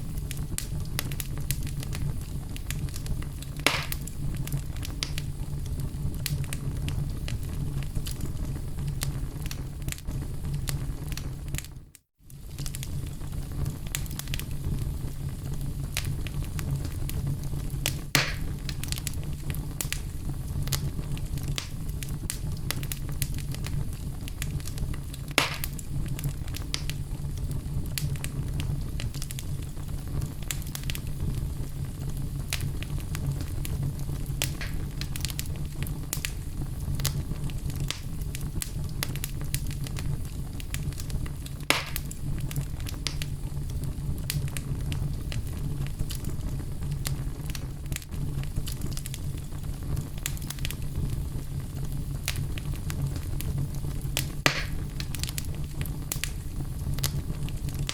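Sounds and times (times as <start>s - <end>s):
fire crackling and popping: 0.0s - 57.9s
wood fire rumbling: 0.0s - 57.9s.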